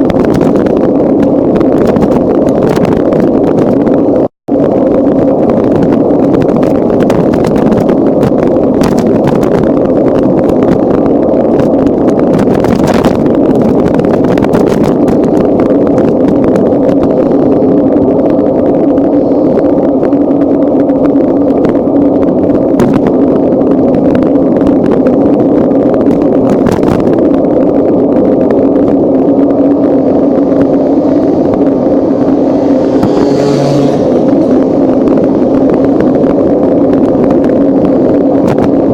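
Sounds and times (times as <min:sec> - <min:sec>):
wind rushing: 0:00.0 - 0:38.9.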